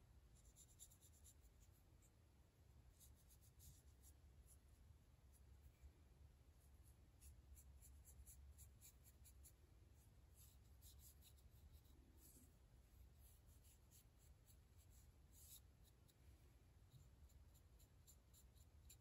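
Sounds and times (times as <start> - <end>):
low steady hum: 0.0 - 19.0
paintbrush strokes: 0.3 - 2.2, 2.9 - 19.0.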